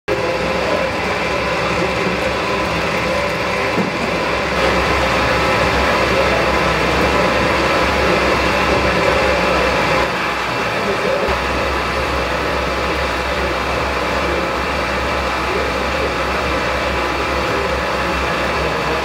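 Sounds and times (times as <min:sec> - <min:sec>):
clay mixer humming and grinding: 0:00.1 - 0:19.0.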